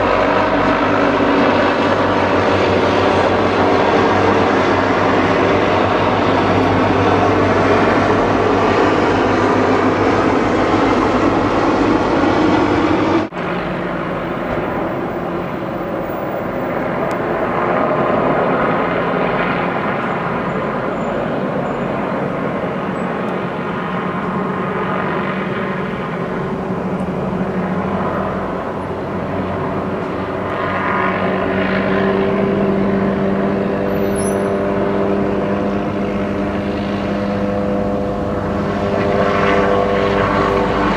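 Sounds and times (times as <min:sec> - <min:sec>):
helicopter rotor and engine drone: 0:00.0 - 0:40.9.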